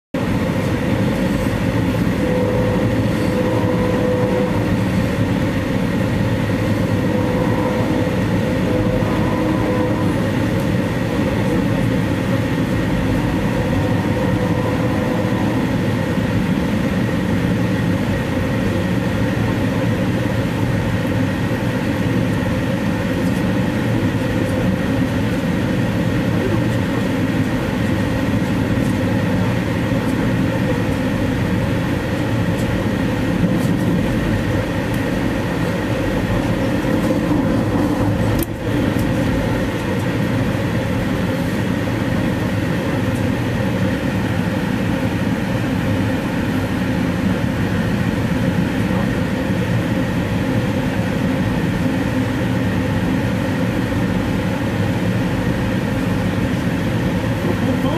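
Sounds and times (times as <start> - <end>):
train wheel and rail noise: 0.2 - 57.9.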